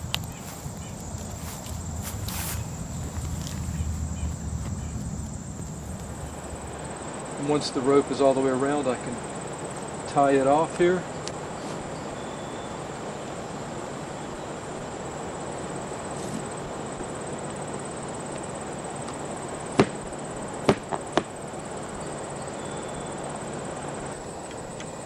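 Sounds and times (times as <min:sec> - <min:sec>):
thin high steady tone: 0:00.0 - 0:20.6, 0:21.4 - 0:25.0
outdoor background hiss: 0:00.0 - 0:25.0.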